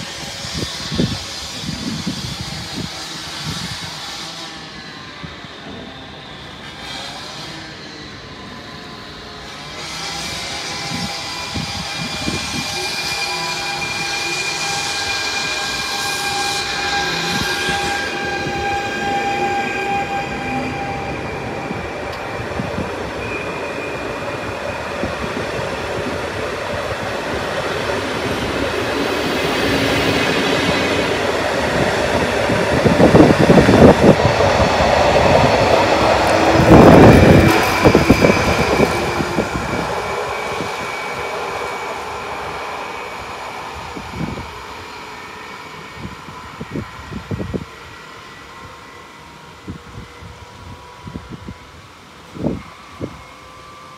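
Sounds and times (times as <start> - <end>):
train wheels rushing on rail: 0.0 - 53.9.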